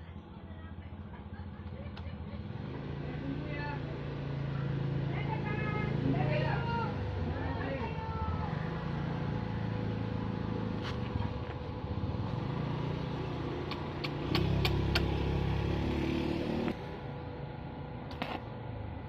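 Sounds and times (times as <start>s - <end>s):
small engine running: 1.1s - 17.3s.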